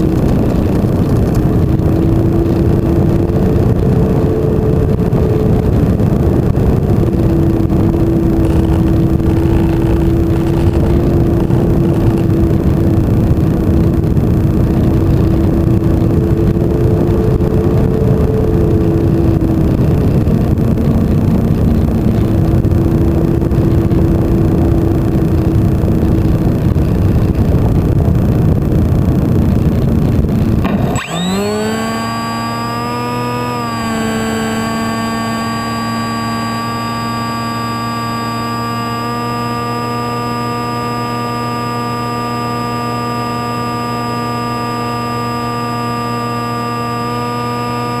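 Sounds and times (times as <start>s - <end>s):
electric motor and propeller hum: 0.0s - 48.0s
high electronic whine: 0.0s - 48.0s
wind rushing over model plane: 0.0s - 48.0s.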